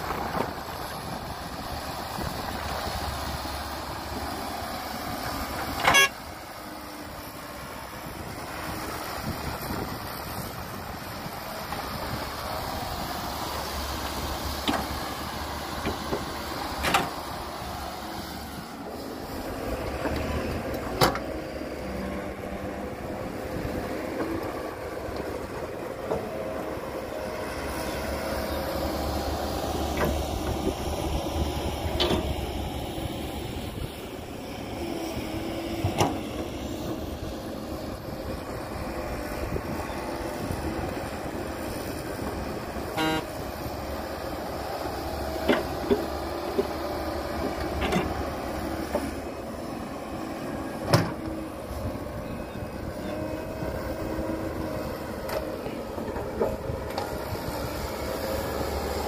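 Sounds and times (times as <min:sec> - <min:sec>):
excavator diesel engine under load: 0:00.0 - 0:59.0.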